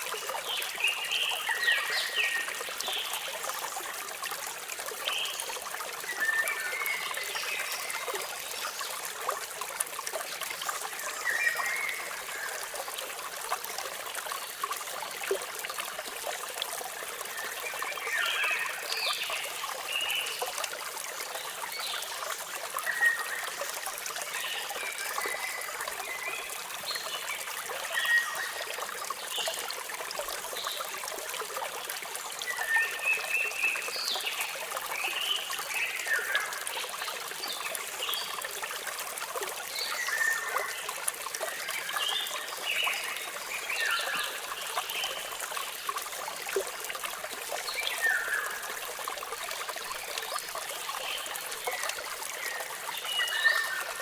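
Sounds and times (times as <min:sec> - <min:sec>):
water falling and trickling: 0:00.0 - 0:54.0.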